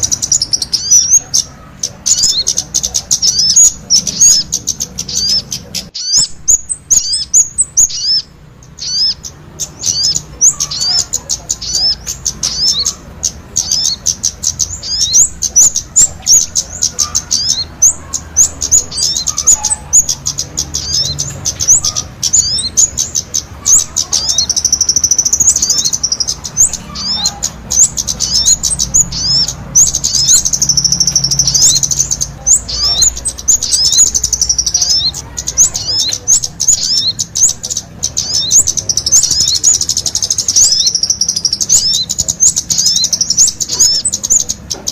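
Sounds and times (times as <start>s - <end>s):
bird trilling: 0.0s - 44.9s
birds chirping and whistling: 0.0s - 44.9s.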